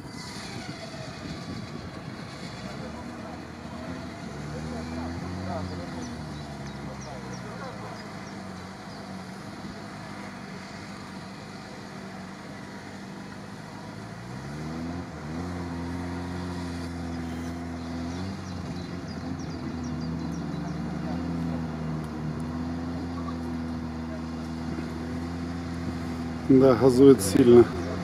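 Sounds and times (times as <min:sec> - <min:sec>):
engine revving hard: 0:00.0 - 0:11.5, 0:13.8 - 0:28.0.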